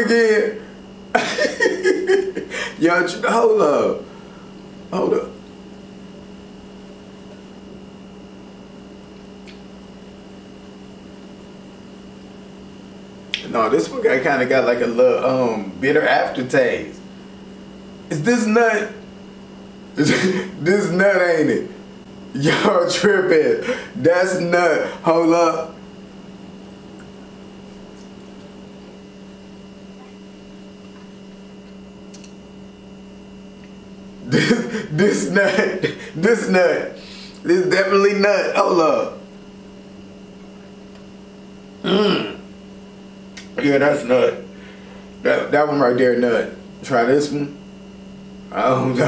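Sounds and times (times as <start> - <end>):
faint high whine: 0.0 - 49.0
low room hum: 0.0 - 49.0.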